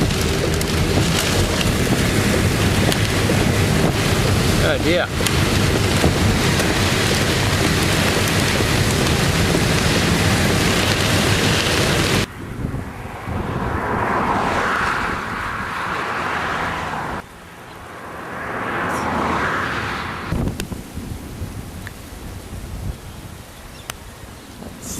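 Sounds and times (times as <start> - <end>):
wind buffeting microphone: 0.0 - 17.8, 20.0 - 24.9
storm wind gusting: 0.0 - 24.9.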